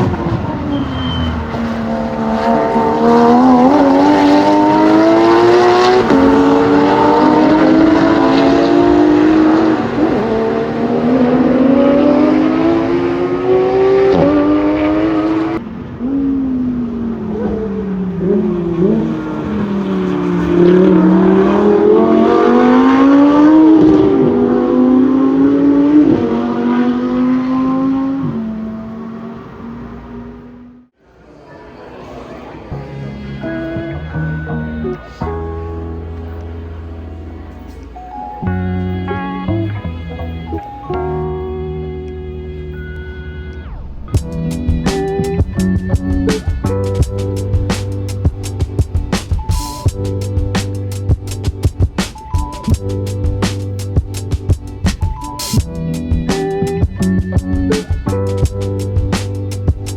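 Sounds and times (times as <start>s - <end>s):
race car engines accelerating: 0.0s - 30.9s, 32.2s - 59.9s.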